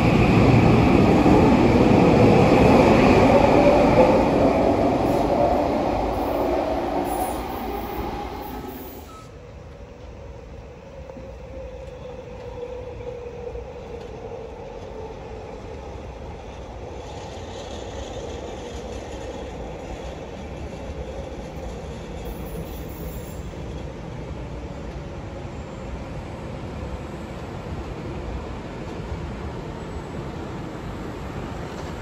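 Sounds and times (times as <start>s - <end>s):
metro train rail rumble: 0.0s - 32.0s.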